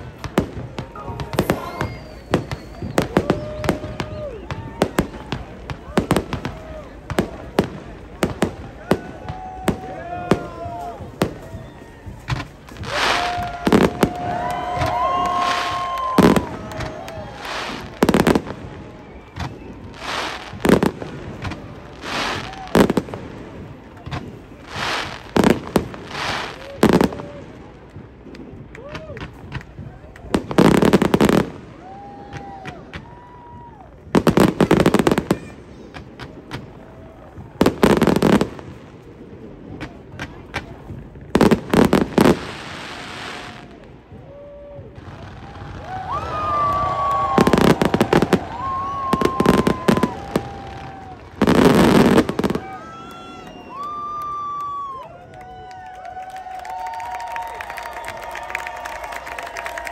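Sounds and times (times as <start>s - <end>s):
fireworks whistling: 0.0s - 27.5s, 28.8s - 38.8s, 39.4s - 54.9s
fireworks bangs: 0.0s - 59.9s
fireworks crackling: 0.0s - 59.9s.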